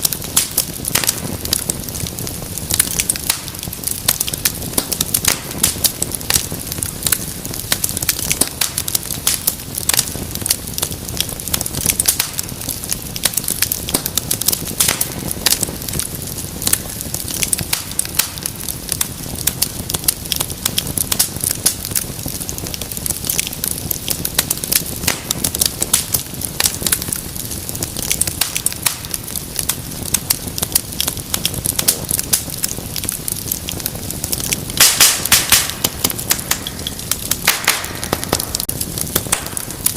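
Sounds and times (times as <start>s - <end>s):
fire crackling and popping: 0.0s - 39.9s
soft rushing hiss of fire: 0.0s - 39.9s.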